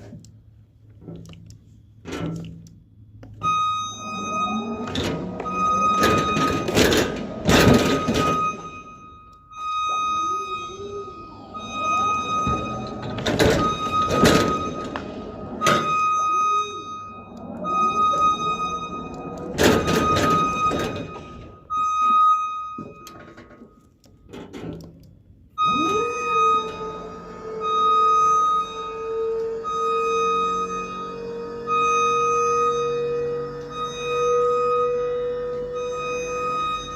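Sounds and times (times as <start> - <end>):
long held tone: 3.2 - 23.9, 25.6 - 36.9.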